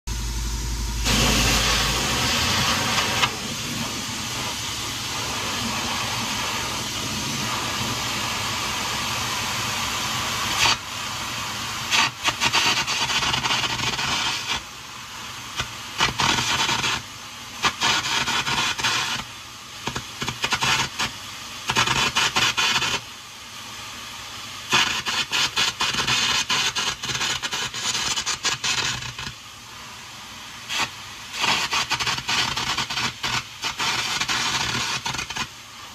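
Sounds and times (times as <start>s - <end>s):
arc gouging torch hissing: 1.0s - 23.0s, 24.7s - 35.6s.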